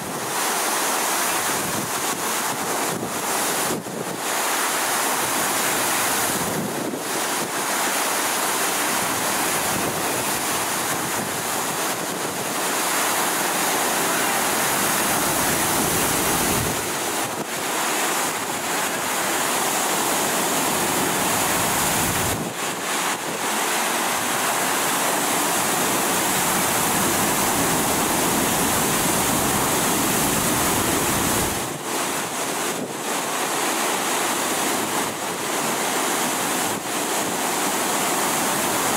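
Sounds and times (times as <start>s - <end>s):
water rushing under high pressure: 0.0s - 38.9s.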